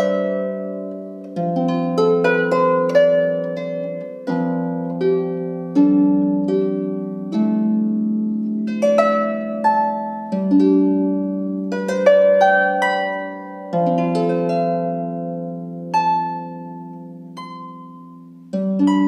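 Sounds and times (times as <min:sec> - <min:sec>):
harp playing slow melody: 0:00.0 - 0:19.0.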